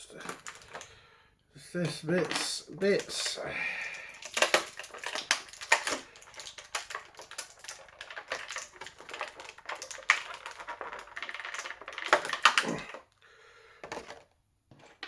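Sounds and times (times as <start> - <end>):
plastic toy parts clicking: 0.1 - 0.9, 1.8 - 13.1.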